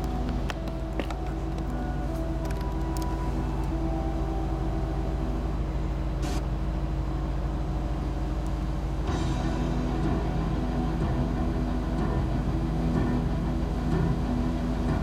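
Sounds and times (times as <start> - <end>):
car engine idling: 0.0 - 15.0
faint music with held notes: 0.0 - 15.0.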